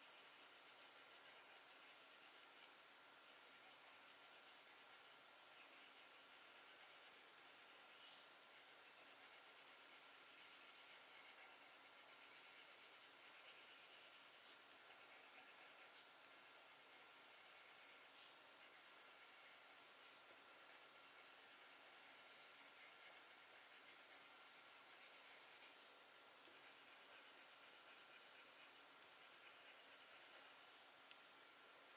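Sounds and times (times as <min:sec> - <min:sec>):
low steady hiss: 0:00.0 - 0:31.9
pencil scratching on paper: 0:00.0 - 0:31.9.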